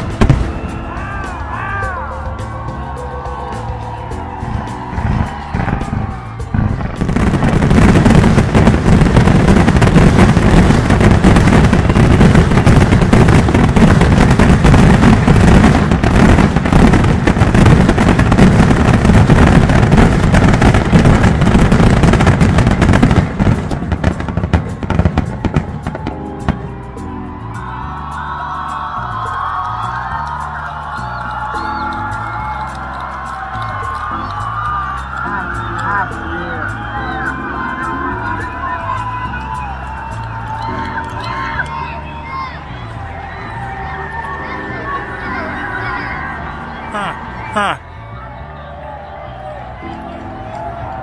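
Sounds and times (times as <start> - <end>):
fireworks bursts and crackle: 0.0 - 1.6, 4.0 - 47.8.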